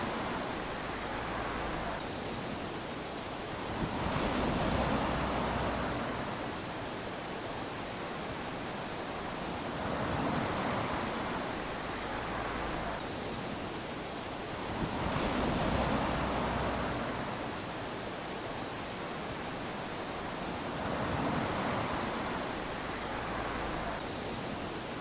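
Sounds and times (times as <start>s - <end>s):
small waves lapping on shore: 0.0s - 25.0s.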